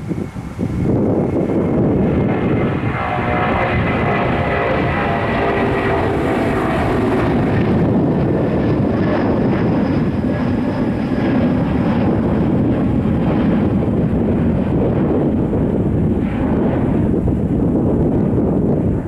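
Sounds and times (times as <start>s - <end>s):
jet engine whine: 0.0s - 19.0s
jet engines low rumble: 0.0s - 19.0s.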